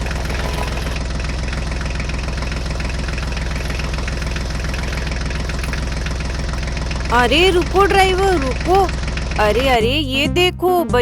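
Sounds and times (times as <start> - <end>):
truck engine chugging: 0.0 - 11.0.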